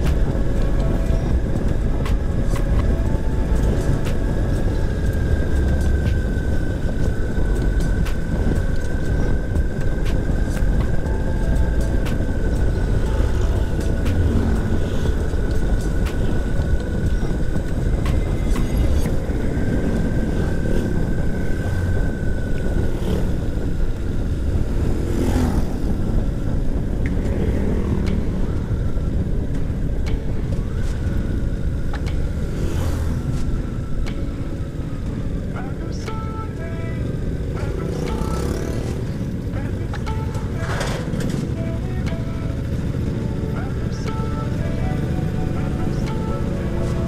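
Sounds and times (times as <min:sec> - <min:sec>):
motorcycle running: 0:00.0 - 0:47.0
wind rush on microphone: 0:00.0 - 0:47.0.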